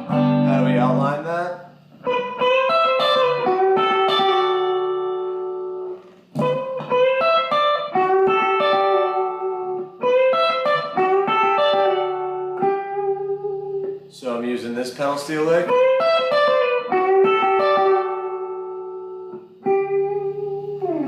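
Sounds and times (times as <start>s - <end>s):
electric guitar country lick: 0.0s - 21.0s.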